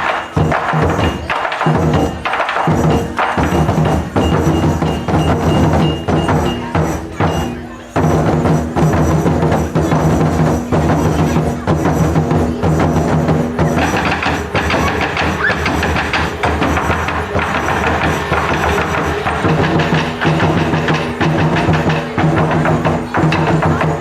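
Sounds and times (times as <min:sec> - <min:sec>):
taiko drums: 0:00.0 - 0:24.0.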